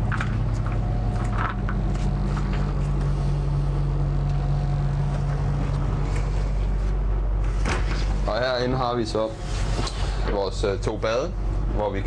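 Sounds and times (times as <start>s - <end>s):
bus engine hum from inside: 0.0s - 11.9s.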